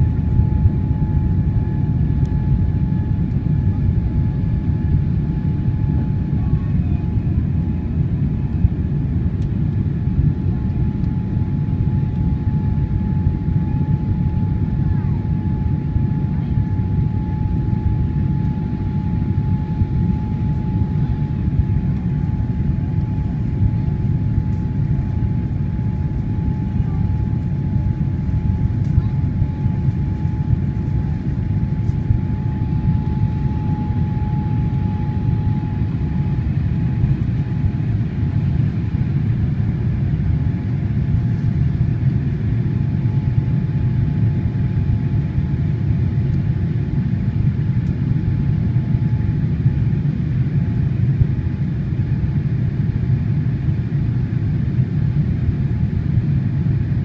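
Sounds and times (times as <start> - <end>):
deep rumble of jet engines: 0.0 - 57.0
faint steady whine: 0.0 - 57.0.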